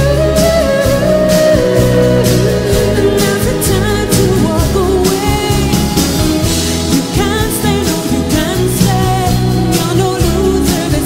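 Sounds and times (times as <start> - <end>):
pop-rock band playing: 0.0 - 11.0
woman singing: 0.0 - 11.0.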